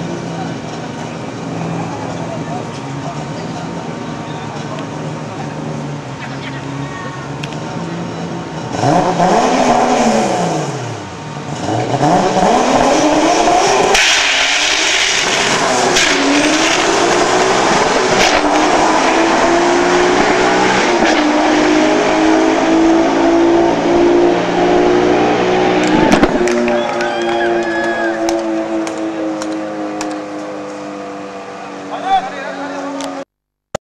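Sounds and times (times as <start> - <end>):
car accelerating hard: 0.0 - 33.2
car engine revving: 0.0 - 33.2.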